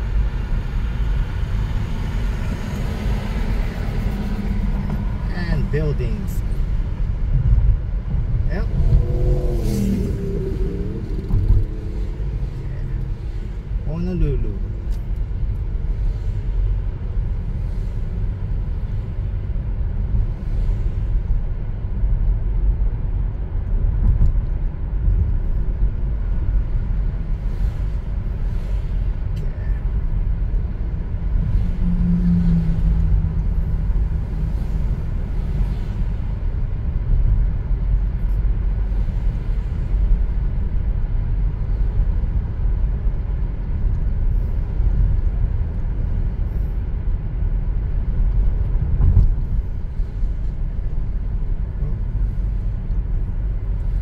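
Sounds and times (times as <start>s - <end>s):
car engine and tyre rumble: 0.0s - 54.0s
low hum: 0.0s - 54.0s.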